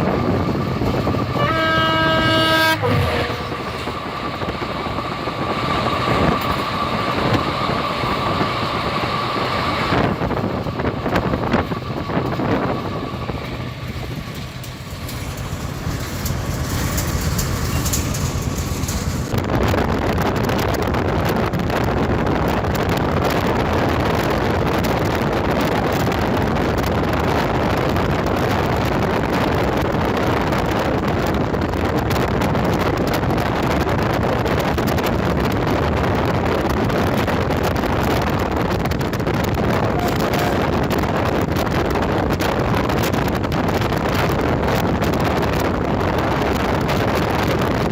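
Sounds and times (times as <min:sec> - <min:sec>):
train running on track: 0:00.0 - 0:47.9.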